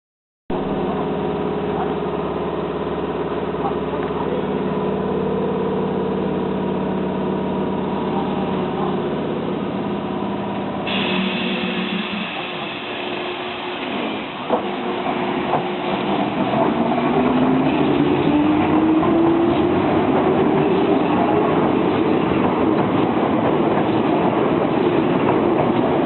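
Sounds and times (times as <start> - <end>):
electric train equipment humming: 0.6 - 26.0.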